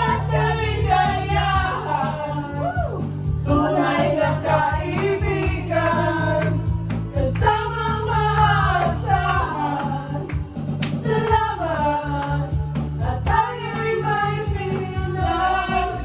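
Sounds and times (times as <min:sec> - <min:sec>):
backing track music: 0:00.0 - 0:16.0
people singing into microphones: 0:00.0 - 0:16.0.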